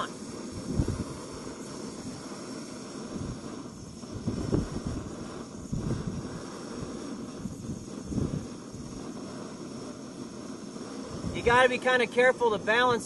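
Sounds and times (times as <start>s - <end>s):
stove burner roaring hiss: 0.0s - 13.0s.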